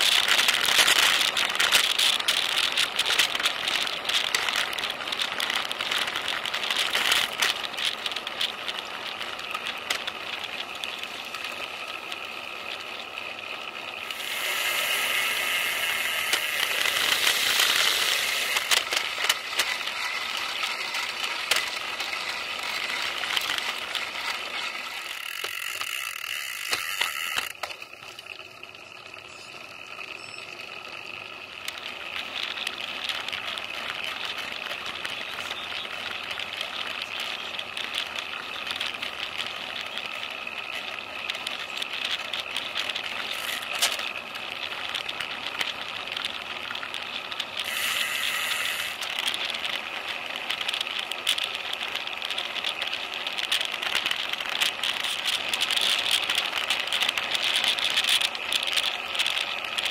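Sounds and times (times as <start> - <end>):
bike rattling clicks: 0.0 - 59.9.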